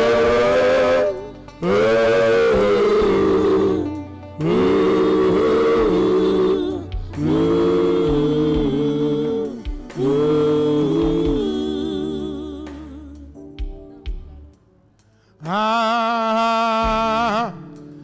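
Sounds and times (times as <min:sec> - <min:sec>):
gospel singing: 0:00.0 - 0:13.8, 0:15.4 - 0:18.0
low musical accompaniment: 0:00.0 - 0:18.0.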